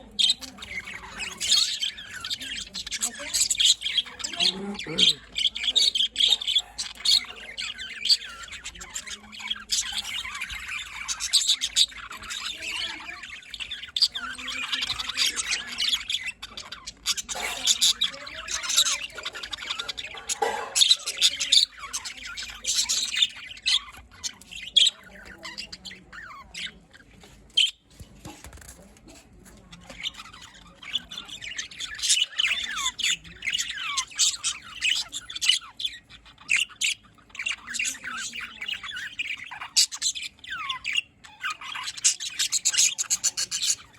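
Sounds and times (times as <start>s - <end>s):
budgerigars chattering and squawking: 0.0s - 43.9s.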